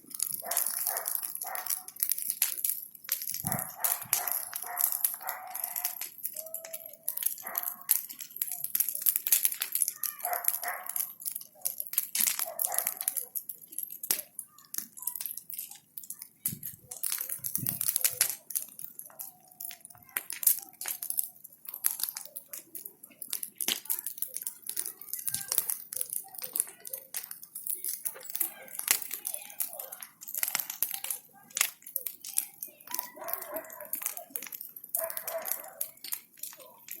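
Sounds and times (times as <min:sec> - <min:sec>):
bonfire crackling and popping: 0:00.0 - 0:37.0.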